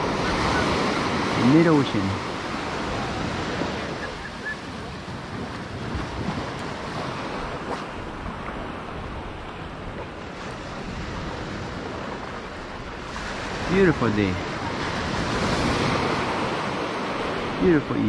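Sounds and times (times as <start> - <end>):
small waves breaking on beach: 0.0 - 18.0
wind rumbling on microphone: 0.0 - 18.0.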